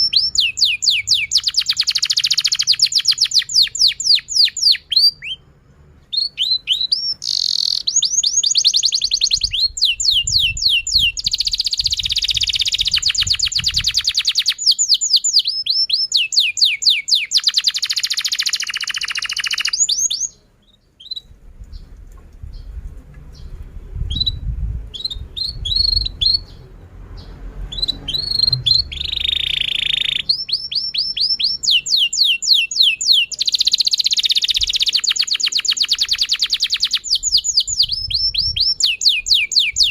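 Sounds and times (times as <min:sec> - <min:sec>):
canary singing: 0:00.0 - 0:22.7, 0:23.3 - 0:39.9.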